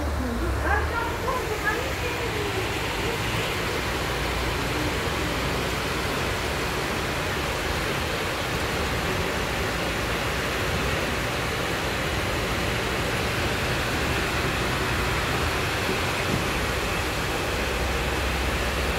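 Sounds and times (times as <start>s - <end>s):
heavy rain pouring: 0.0s - 18.9s.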